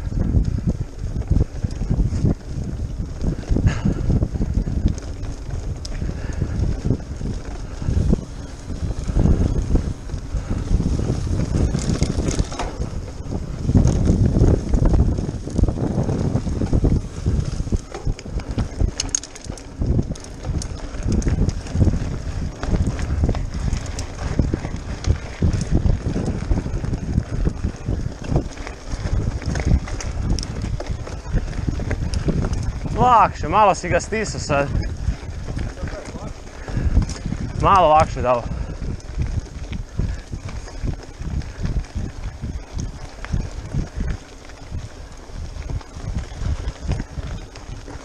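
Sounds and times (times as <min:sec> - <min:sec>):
bike rattling over rocks: 0:00.0 - 0:48.0
bike tyres rumbling over stones: 0:00.0 - 0:48.0
wind buffeting microphone: 0:00.0 - 0:48.0.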